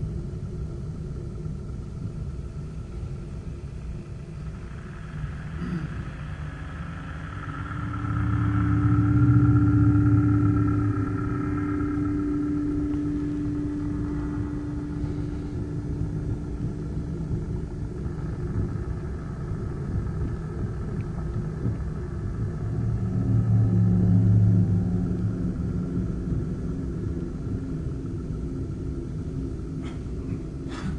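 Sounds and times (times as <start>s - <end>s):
low rumbling drone: 0.0s - 30.9s.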